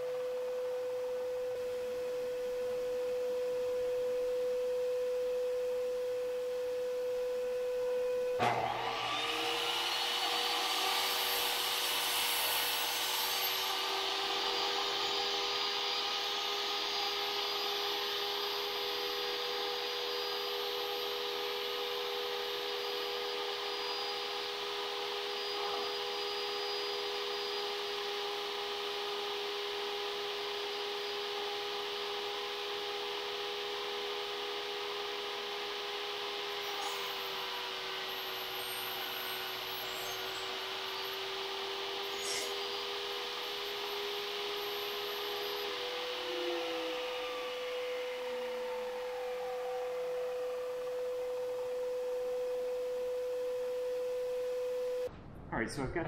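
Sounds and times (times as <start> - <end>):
table saw cutting wood: 7.9 - 54.7.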